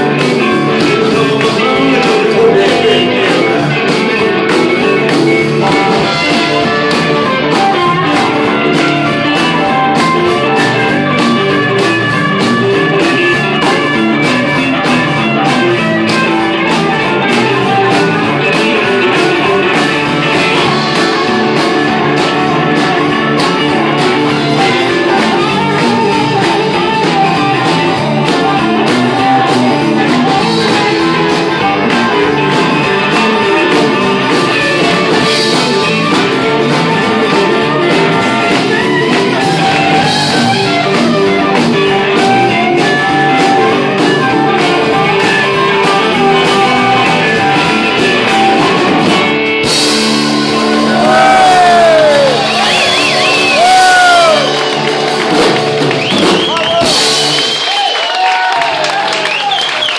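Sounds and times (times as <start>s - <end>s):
bass guitar: 0.0s - 59.9s
drum kit beat: 0.0s - 59.9s
electric guitars: 0.0s - 59.9s.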